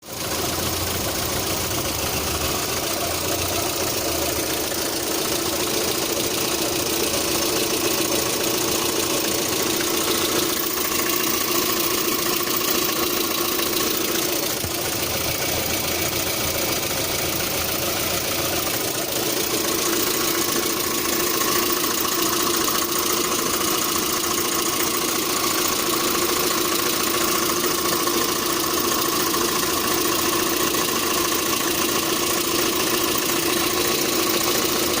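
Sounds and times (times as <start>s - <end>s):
engine idling with a knock: 0.1s - 35.0s.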